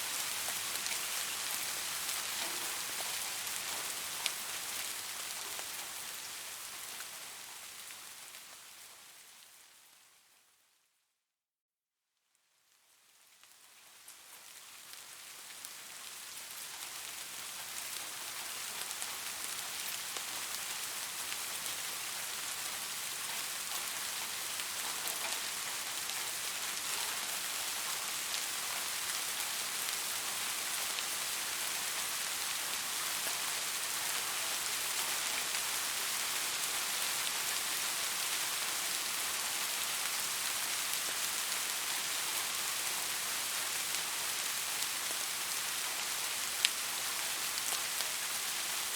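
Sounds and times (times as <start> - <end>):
steady rain falling: 0.0 - 10.7, 12.4 - 48.9.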